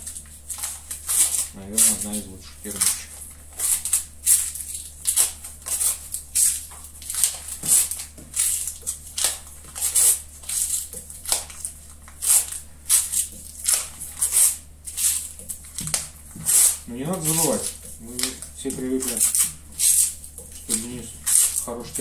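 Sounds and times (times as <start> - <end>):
knife blade slicing cuts: 0.1 - 22.0.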